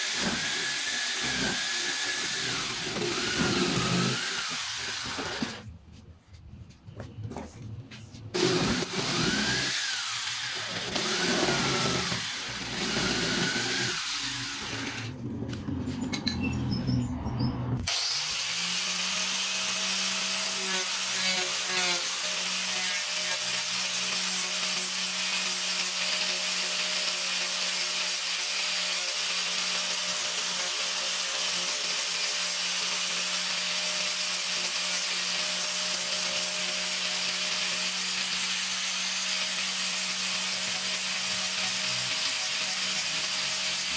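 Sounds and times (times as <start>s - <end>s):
angle grinder sanding wood: 0.0s - 5.7s, 8.2s - 15.2s, 17.9s - 43.9s
uneven rasping tool noise: 0.0s - 6.0s, 8.0s - 16.2s, 17.8s - 43.9s.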